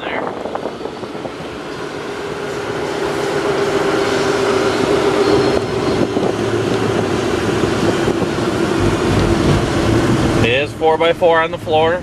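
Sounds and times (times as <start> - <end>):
pickup engine driving: 0.0 - 12.0.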